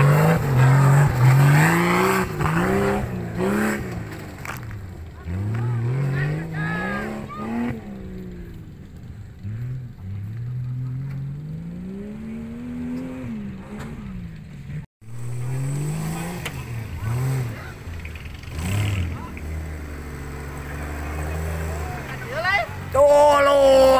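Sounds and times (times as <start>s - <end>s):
off-road vehicle engine revving: 0.0s - 23.9s.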